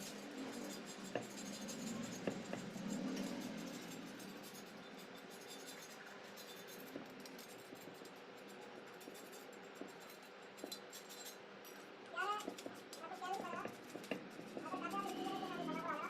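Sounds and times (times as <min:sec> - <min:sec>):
scratching and scraping: 0:00.0 - 0:16.0.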